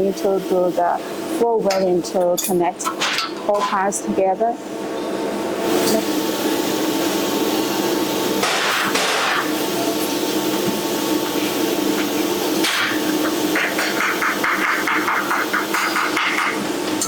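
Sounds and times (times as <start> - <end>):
welding buzz and hiss: 0.0 - 17.0.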